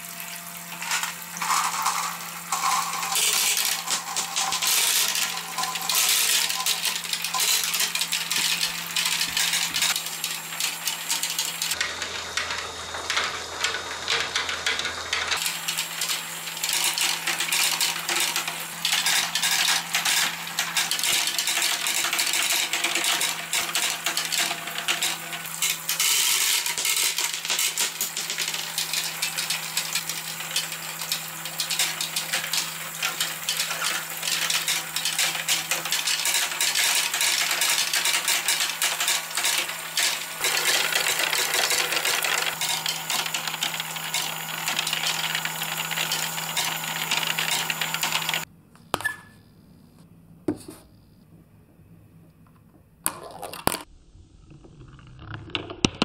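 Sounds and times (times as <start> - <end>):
marbles clattering on plastic: 0.7 - 48.5, 53.0 - 56.0.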